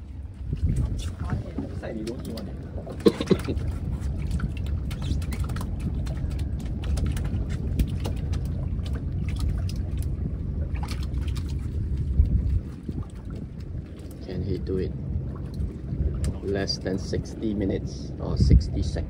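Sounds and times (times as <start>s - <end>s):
water lapping against boat hull: 0.0s - 19.0s
wind on microphone: 0.0s - 19.0s.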